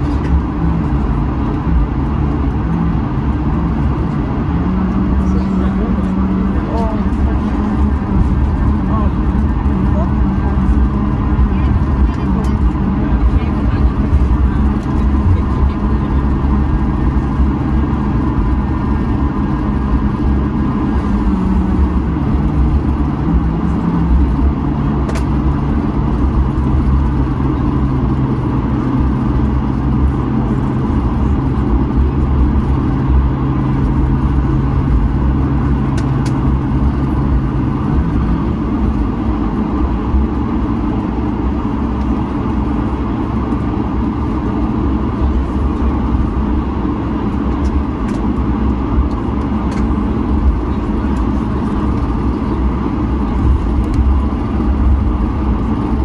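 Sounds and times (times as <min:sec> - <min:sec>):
jet engines rumbling at taxi power: 0:00.0 - 0:56.0
low hum: 0:00.0 - 0:56.0.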